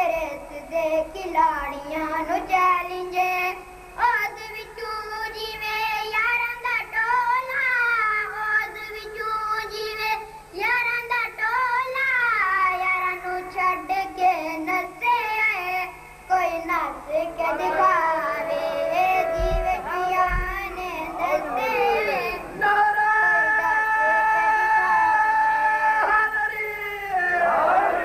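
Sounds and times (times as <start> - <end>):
boy chanting into a microphone: 0.0 - 27.4.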